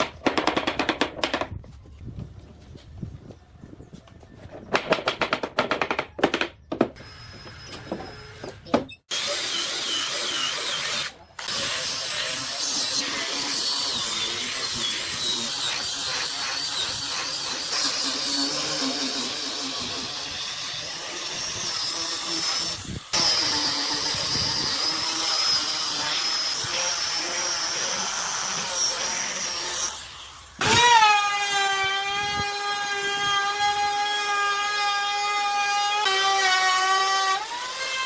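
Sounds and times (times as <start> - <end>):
power tool whining: 7.0 - 38.0.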